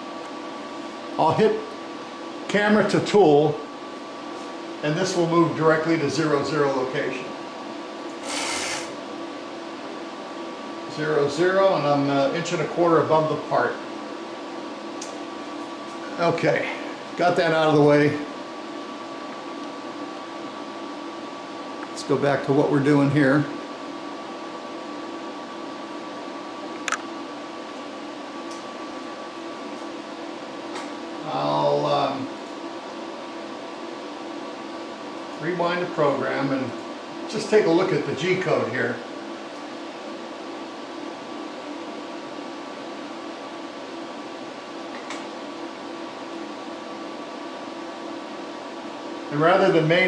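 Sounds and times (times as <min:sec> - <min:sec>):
workshop hum and hiss: 0:00.0 - 0:50.0.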